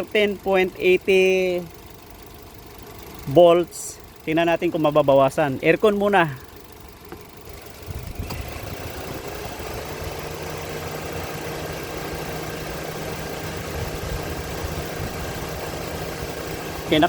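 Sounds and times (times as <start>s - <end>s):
car engine idling: 0.0s - 17.0s
steady low hum: 0.0s - 17.0s.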